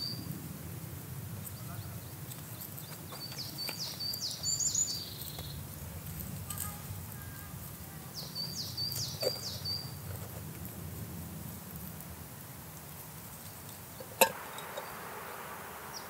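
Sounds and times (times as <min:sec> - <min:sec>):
songbird singing: 0:00.0 - 0:00.4, 0:01.4 - 0:10.8, 0:12.7 - 0:16.0.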